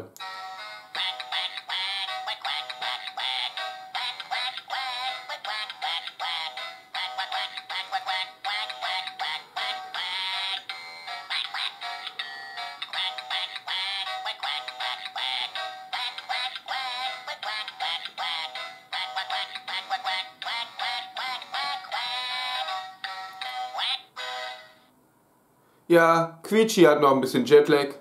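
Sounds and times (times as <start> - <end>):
toy chattering in squeaky voice: 0.9 - 22.8, 23.4 - 24.6.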